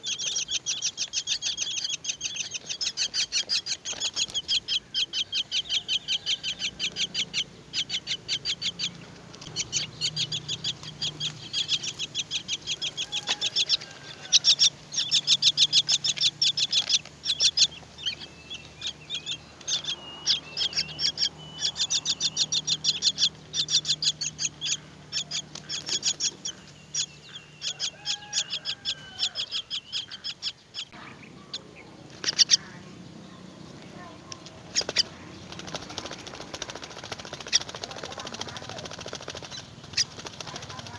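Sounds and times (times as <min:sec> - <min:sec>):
nestlings chirping for food: 0:00.0 - 0:40.9.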